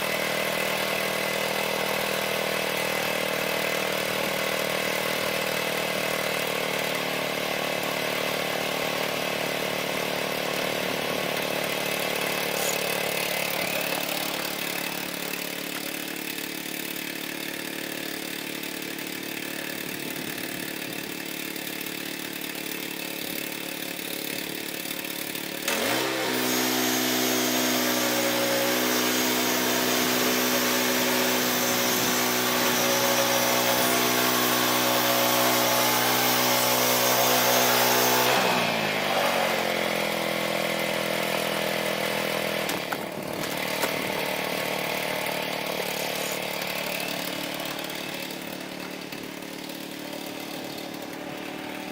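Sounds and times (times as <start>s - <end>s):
gas engine running: 0.0s - 51.9s.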